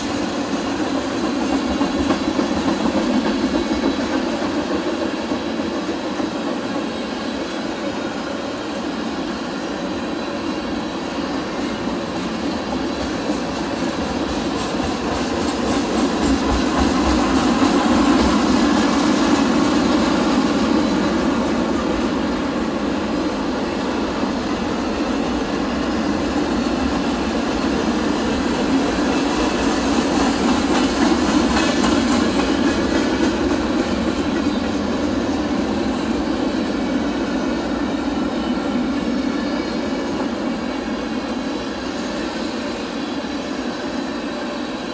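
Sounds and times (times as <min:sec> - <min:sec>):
train wheels rolling on rails: 0:00.0 - 0:44.9.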